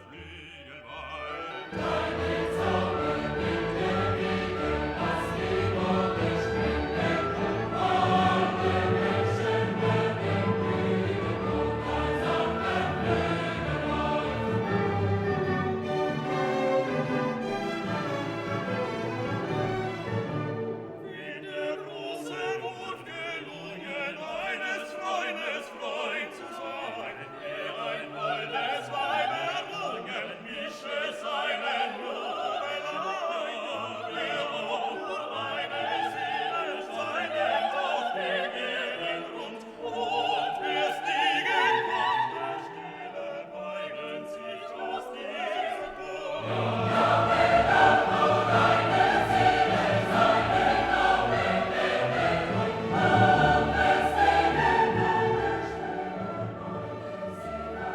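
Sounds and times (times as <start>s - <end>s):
choral singing with orchestra: 0.0s - 57.9s.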